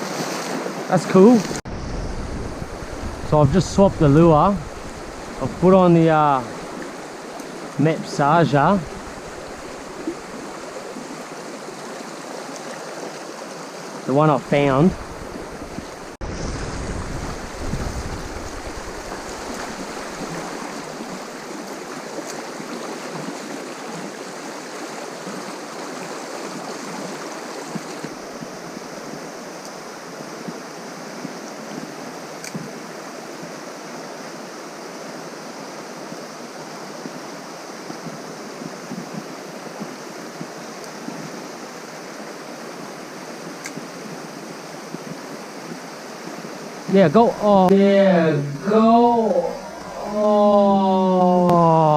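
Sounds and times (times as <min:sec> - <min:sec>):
river water rushing over rocks: 0:00.0 - 0:51.9.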